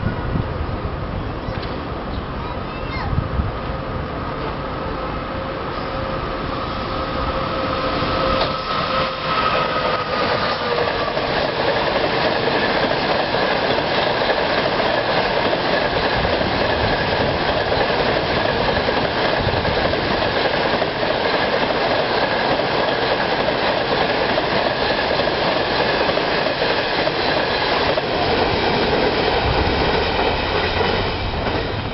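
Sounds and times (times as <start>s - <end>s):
train wheels on rails: 0.0s - 31.9s
electric locomotive whine: 3.4s - 31.9s.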